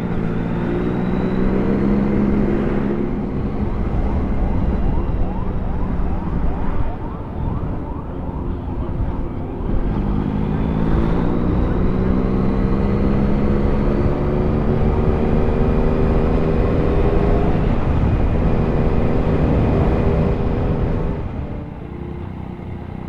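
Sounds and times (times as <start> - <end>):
motorcycle engine cruising: 0.0 - 23.0
road and wind noise: 0.0 - 23.0.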